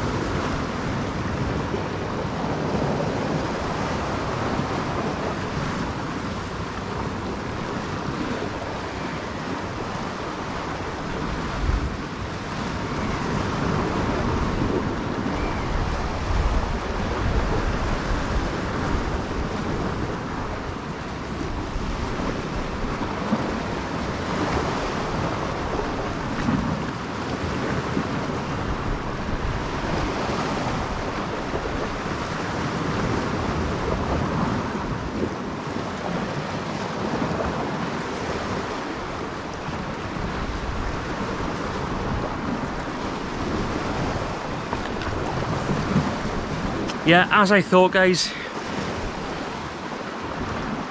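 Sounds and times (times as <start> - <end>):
sea water washing against rocks: 0.0 - 50.9
wind gusting on microphone: 0.0 - 50.9.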